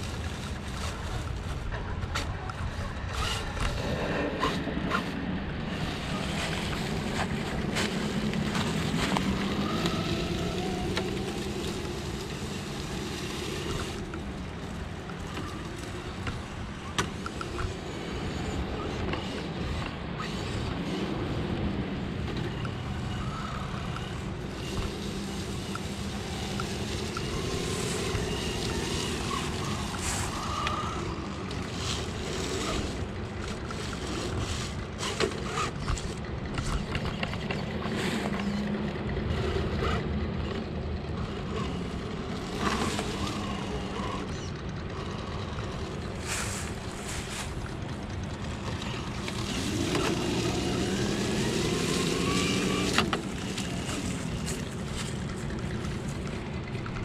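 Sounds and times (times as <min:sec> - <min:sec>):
toy car motor whining: 0:02.5 - 0:57.0.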